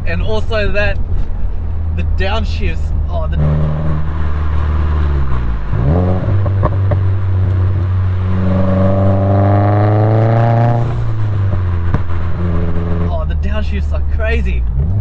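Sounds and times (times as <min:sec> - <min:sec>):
exhaust cracks: 0:00.9 - 0:15.0
car engine revving: 0:02.8 - 0:15.0.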